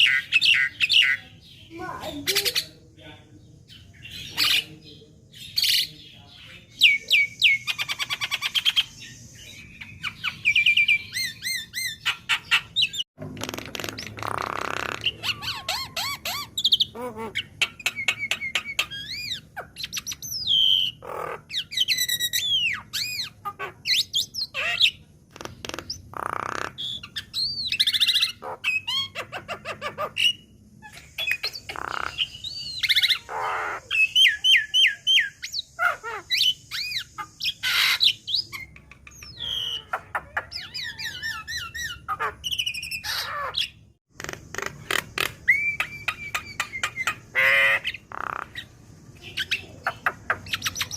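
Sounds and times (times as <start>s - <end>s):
myna bird song: 0.0s - 50.9s.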